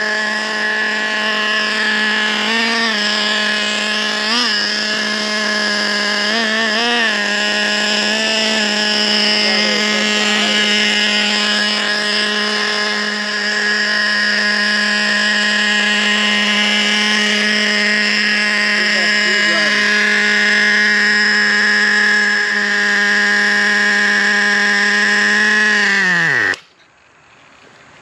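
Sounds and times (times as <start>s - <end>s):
nitro engine high idle: 0.0s - 28.0s.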